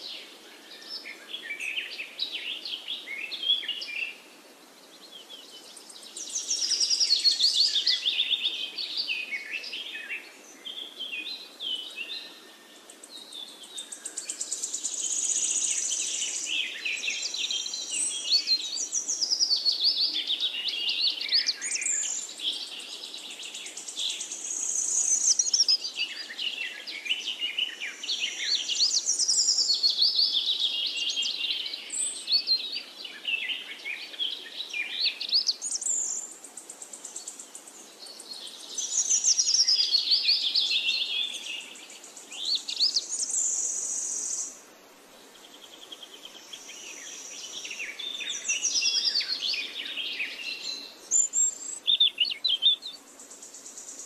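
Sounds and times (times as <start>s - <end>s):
birds chirping and trilling: 0.0s - 44.6s, 45.2s - 54.0s
faint steady hiss: 0.0s - 54.0s.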